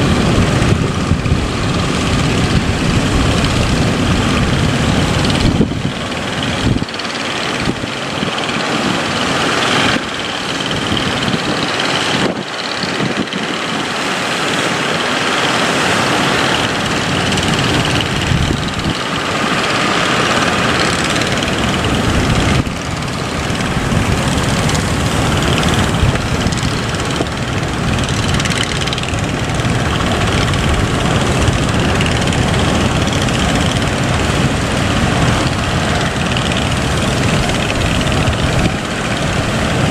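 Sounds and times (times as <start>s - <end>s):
boat engine running: 0.0s - 39.9s
wind and water rushing: 0.0s - 39.9s.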